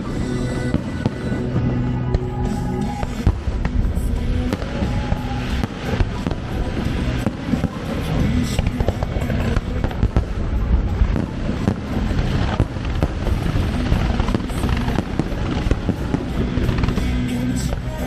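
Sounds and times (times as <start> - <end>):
fireworks bursting and crackling: 0.0 - 18.0
music playing: 0.0 - 18.0.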